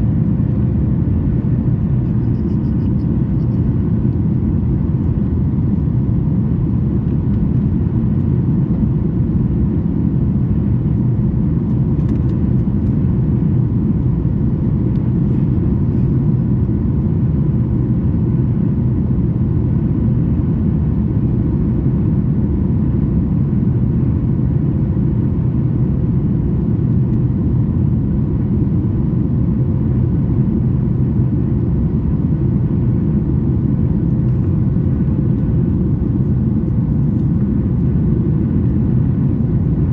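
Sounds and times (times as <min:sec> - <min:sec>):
airplane cabin rumble: 0:00.0 - 0:39.9
faint steady hum: 0:00.0 - 0:39.9.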